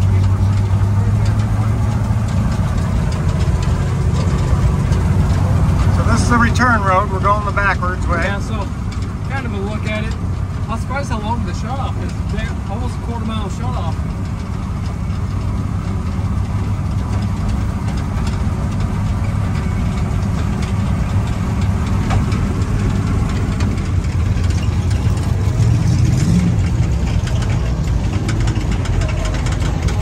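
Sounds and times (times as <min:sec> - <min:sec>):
car engine low rumble: 0:00.0 - 0:30.0.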